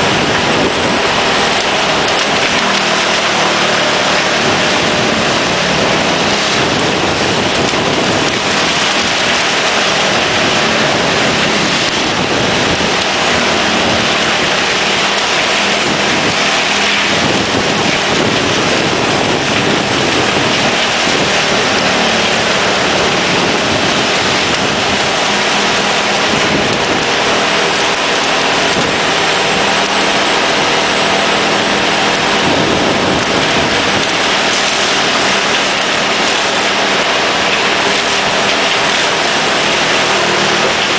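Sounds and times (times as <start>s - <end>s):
engine hum: 0.0s - 40.9s
wood chipper chipping timber: 0.0s - 40.9s.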